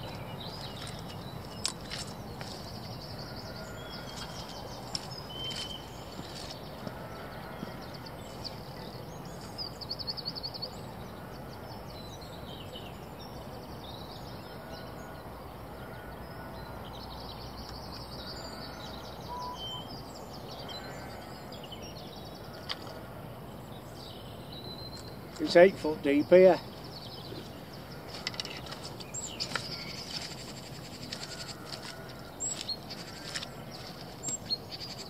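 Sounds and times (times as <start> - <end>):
small birds chirping: 0.0 - 35.0
steady background noise: 0.0 - 35.0.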